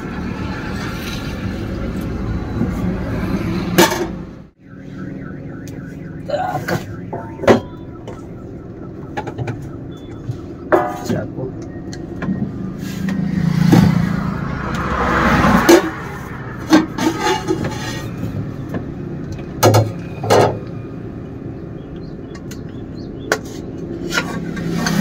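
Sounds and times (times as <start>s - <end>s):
road traffic passing: 0.0s - 25.0s.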